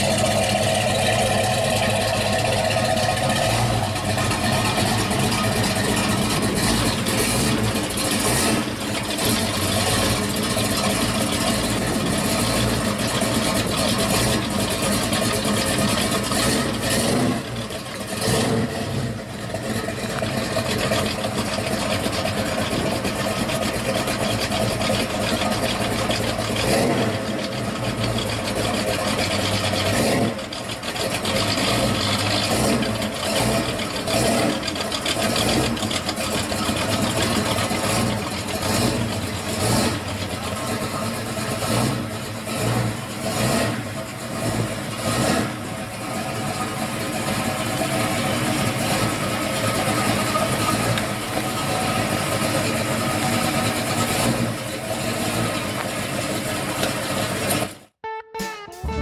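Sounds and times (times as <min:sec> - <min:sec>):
engine revving: 0:00.0 - 0:55.9
car engine running at low speed: 0:00.0 - 0:57.9.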